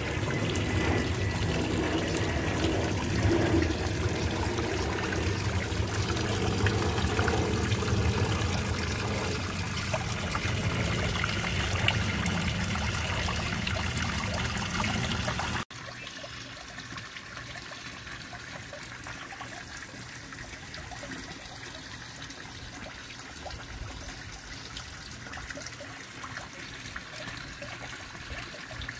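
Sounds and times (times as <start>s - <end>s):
waterfall splashing into pond: 0.0s - 28.9s.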